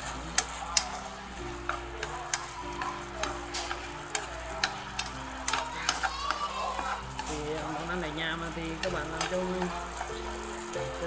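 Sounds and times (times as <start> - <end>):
chopsticks clicking against pan: 0.0 - 11.0
squid sizzling in a wok: 0.0 - 11.0.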